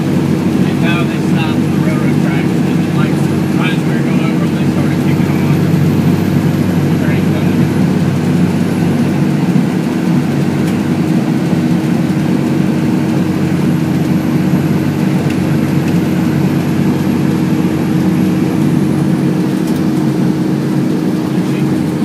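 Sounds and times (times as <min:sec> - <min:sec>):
constant low hum: 0:00.0 - 0:22.0
engine drone: 0:00.0 - 0:22.0
road noise: 0:00.0 - 0:22.0.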